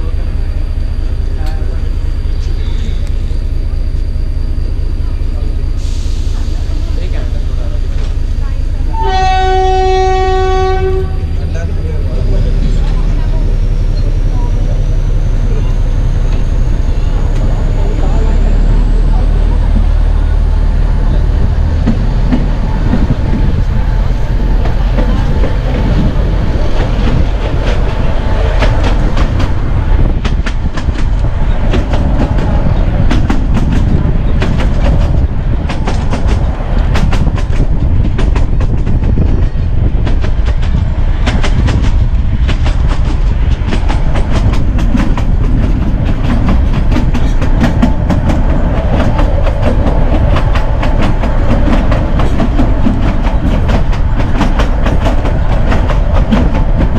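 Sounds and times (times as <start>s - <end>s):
railway coach rumbling: 0.0s - 56.9s.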